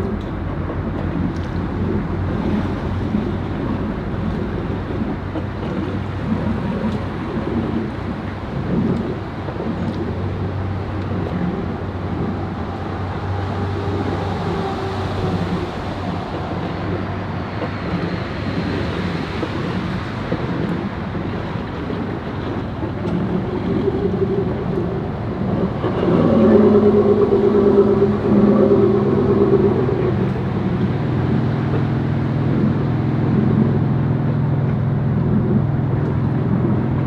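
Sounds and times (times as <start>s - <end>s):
engine running at low speed: 0.0s - 37.0s
wind on microphone: 0.0s - 37.0s.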